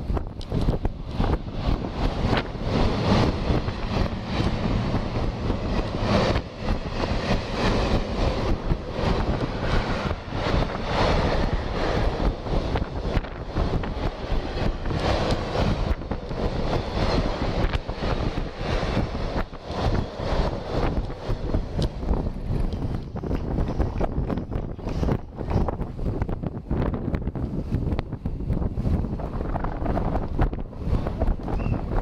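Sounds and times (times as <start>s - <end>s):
freight train wheels rumbling on rail: 0.0s - 32.0s
wind on microphone: 0.0s - 32.0s.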